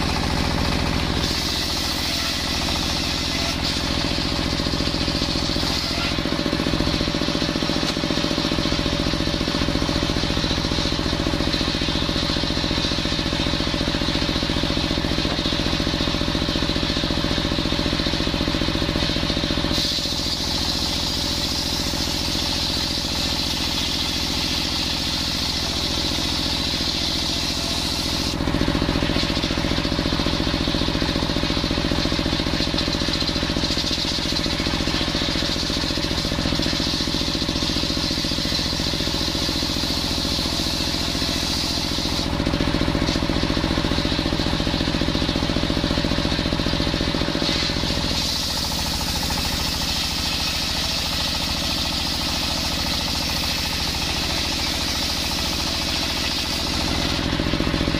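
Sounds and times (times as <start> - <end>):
circular saw ripping wood: 0.0 - 57.9
engine hum: 0.0 - 57.9.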